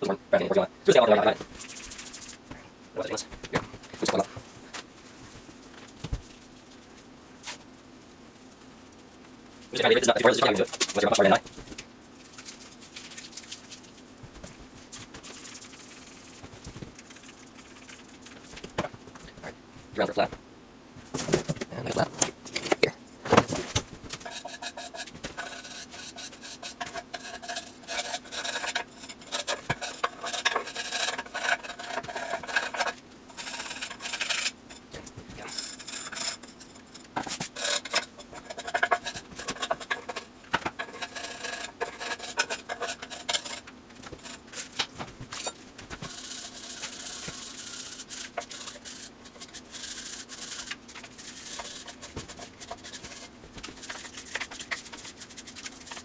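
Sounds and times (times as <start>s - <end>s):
steady low hum: 0.0s - 56.0s
hand rubbing and scraping: 1.1s - 20.4s, 23.3s - 56.0s.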